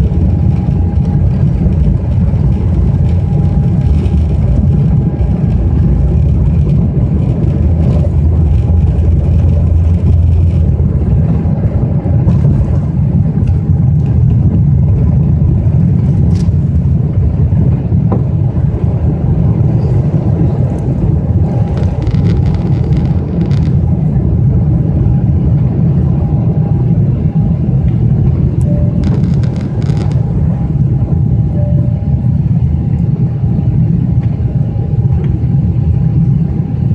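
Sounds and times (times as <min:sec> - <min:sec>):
jet engines at high thrust: 0:00.0 - 0:36.9.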